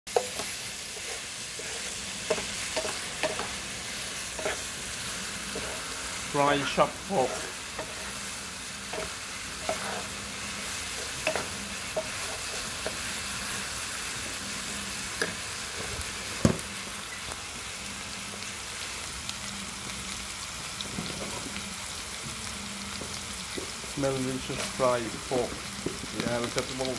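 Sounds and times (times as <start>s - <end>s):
meat sizzling in frying pan: 0.1s - 26.9s.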